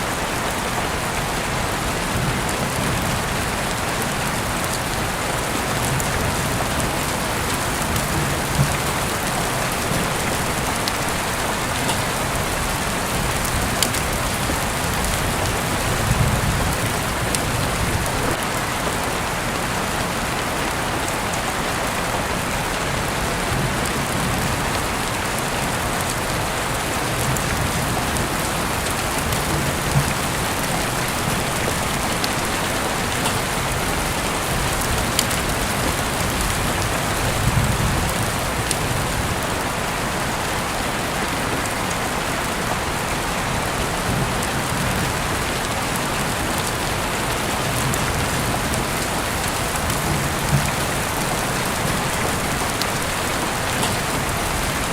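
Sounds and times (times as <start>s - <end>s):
heavy rain falling: 0.0s - 54.9s
rain drips and patter: 0.0s - 54.9s.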